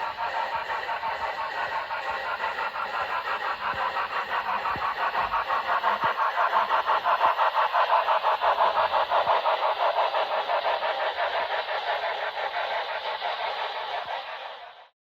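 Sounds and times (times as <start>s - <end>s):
model train running rhythmically: 0.0s - 14.9s.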